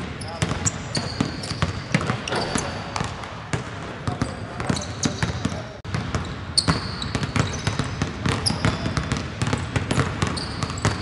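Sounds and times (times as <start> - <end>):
basketballs bouncing on hardwood: 0.0 - 11.0
sneaker squeaks: 0.2 - 3.2, 4.1 - 11.0.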